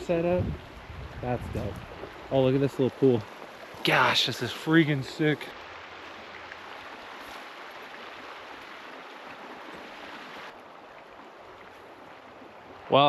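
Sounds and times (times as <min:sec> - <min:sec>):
river water rushing: 0:01.8 - 0:13.0.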